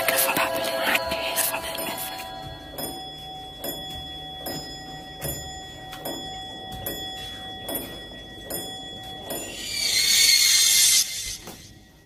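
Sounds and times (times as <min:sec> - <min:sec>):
clock-like ticking beat: 0:00.0 - 0:09.8.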